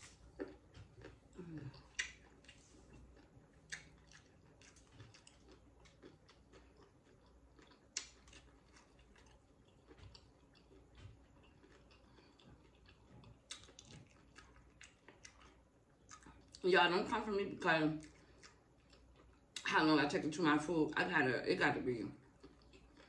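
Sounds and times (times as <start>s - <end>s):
chewing crunchy chips: 0.0s - 16.6s, 17.9s - 19.7s, 22.2s - 23.0s.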